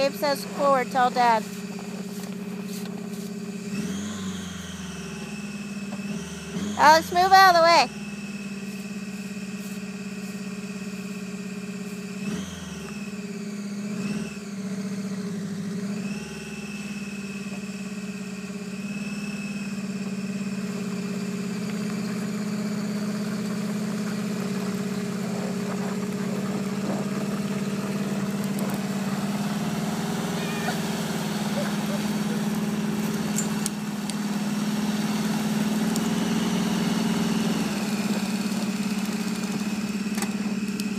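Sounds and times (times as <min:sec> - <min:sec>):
tracked vehicle engine revving: 0:00.0 - 0:40.9.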